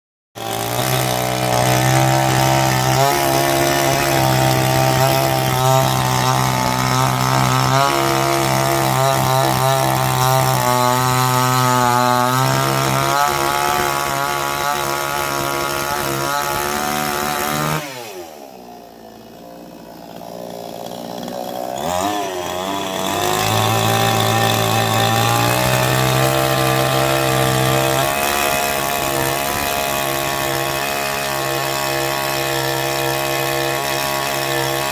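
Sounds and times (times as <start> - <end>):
chainsaw engine revving: 0.4 - 34.9.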